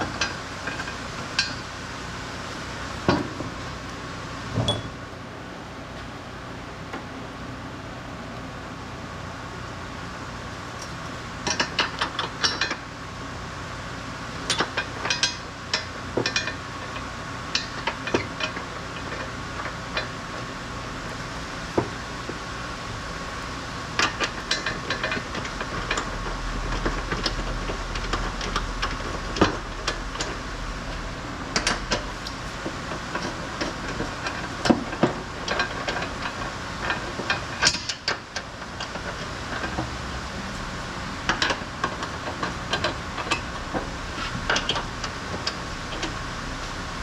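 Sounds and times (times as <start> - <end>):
workshop hum: 0.0 - 47.0.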